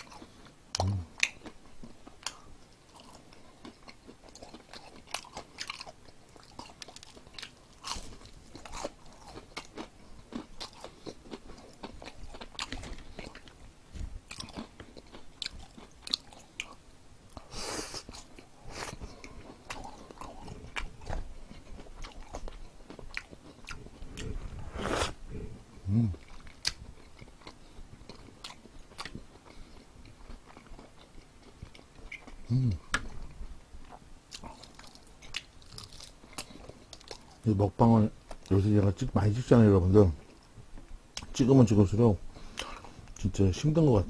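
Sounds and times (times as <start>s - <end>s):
crunchy chewing of fried chicken: 0.0s - 44.0s.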